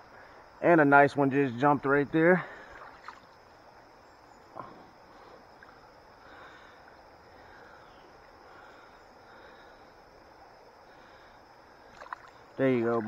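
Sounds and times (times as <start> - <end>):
moving water hiss: 2.4 - 13.0.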